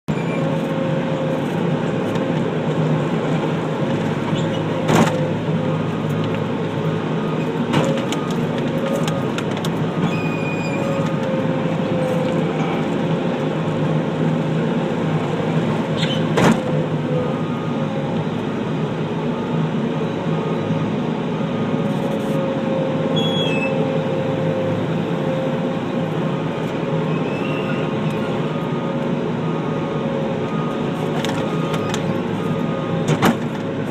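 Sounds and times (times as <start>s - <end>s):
loader engine running: 0.1s - 33.9s.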